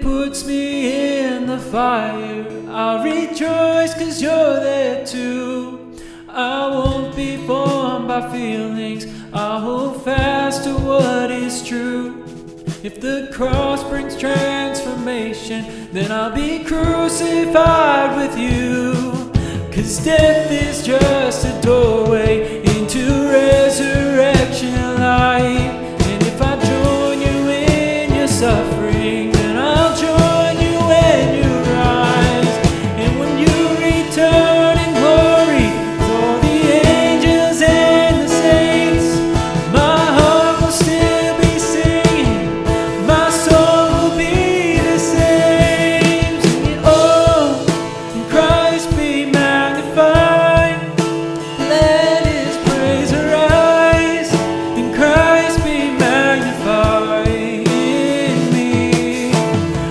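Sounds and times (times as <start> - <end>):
worship band music with singing: 0.0 - 59.9.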